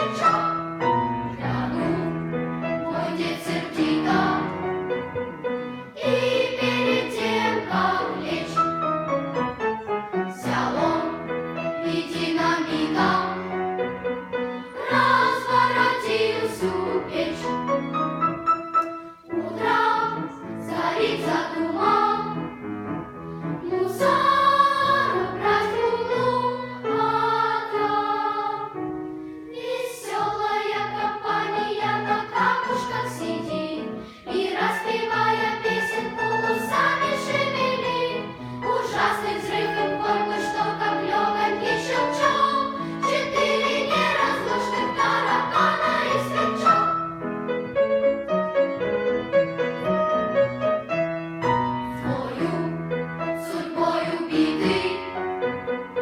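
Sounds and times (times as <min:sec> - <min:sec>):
children's choir singing: 0:00.0 - 0:18.0, 0:19.1 - 0:22.7, 0:23.6 - 0:47.2, 0:51.8 - 0:55.7
musical accompaniment: 0:00.0 - 0:56.0.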